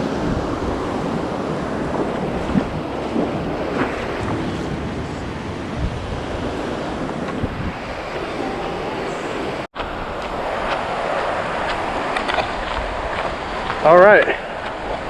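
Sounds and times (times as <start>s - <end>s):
wind buffeting microphone: 0.0s - 13.8s
ocean surf washing in: 0.0s - 15.0s.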